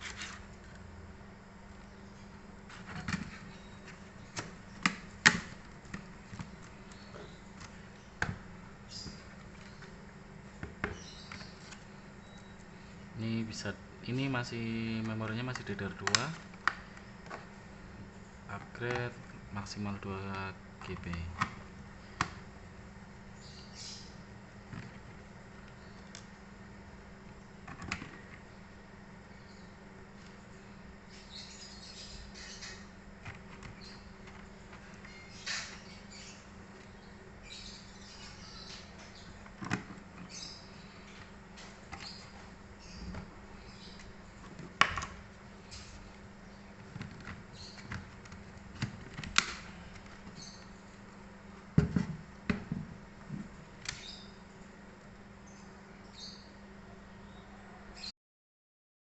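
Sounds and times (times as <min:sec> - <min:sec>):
low steady hum: 0:00.0 - 0:58.1.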